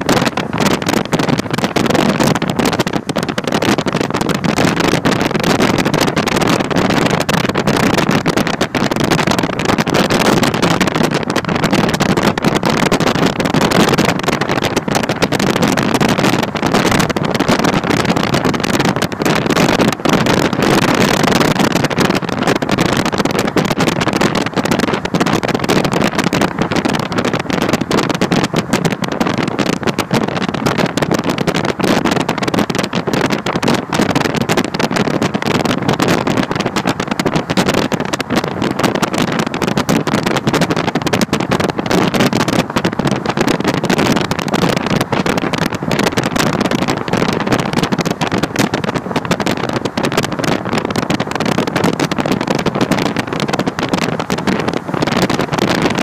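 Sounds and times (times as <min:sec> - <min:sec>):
car road noise: 0:00.0 - 0:56.0
wind buffeting microphone: 0:00.0 - 0:56.0.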